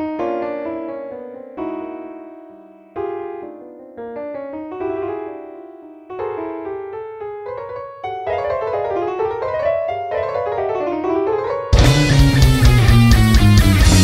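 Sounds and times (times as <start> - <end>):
atonal keyboard notes: 0.0 - 14.0.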